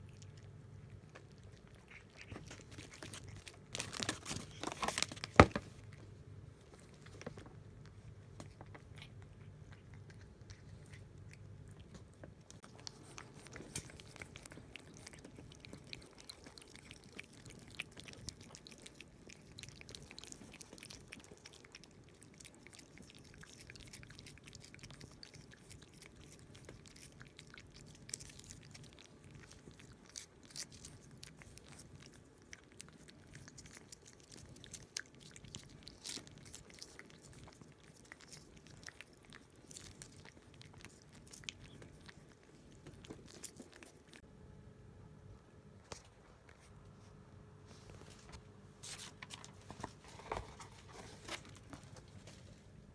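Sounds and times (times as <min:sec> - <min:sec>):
cats licking with tongue clicks: 0:00.0 - 0:44.2.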